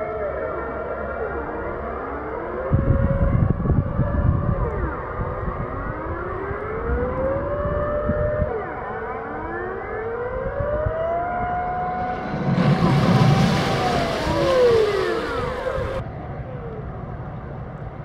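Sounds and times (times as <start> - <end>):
air-raid siren wailing: 0.0 - 17.9
distant sirens: 0.0 - 18.0.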